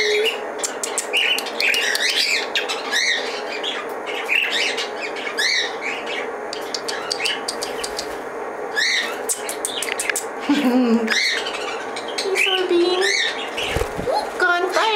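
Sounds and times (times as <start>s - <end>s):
budgerigar chirping and squawking: 0.0s - 8.2s, 8.8s - 10.2s, 11.1s - 14.3s.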